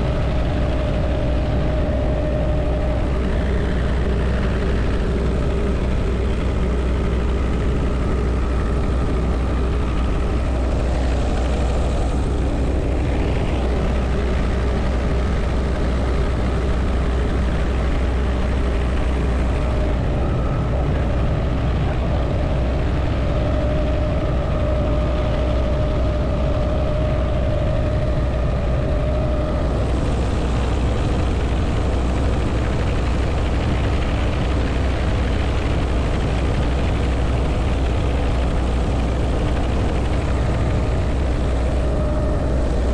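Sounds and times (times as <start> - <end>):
helicopter rotor and engine drone: 0.0 - 42.9
high-pitched whine: 0.0 - 42.9
wind noise: 0.0 - 42.9.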